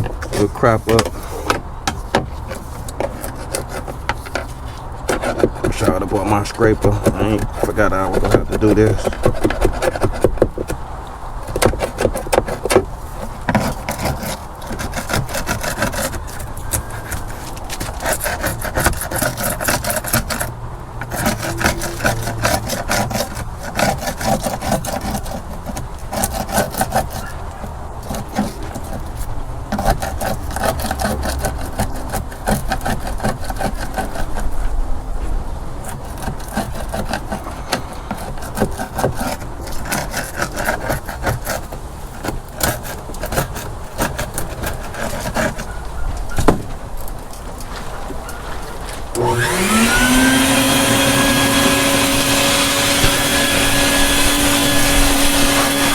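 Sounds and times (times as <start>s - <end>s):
screwdriver scraping paint: 0.0s - 10.8s, 11.4s - 34.7s, 35.8s - 45.8s, 49.2s - 55.9s.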